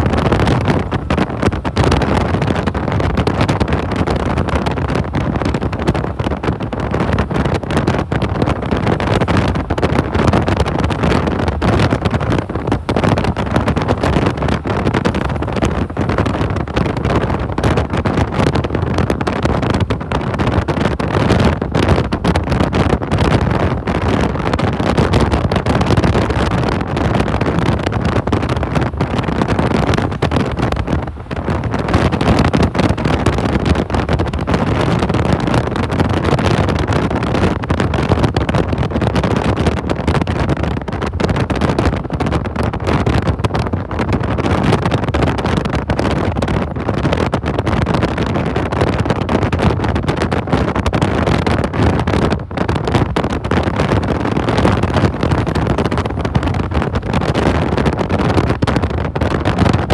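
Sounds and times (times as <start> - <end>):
loud steady rushing noise: 0.0 - 59.9.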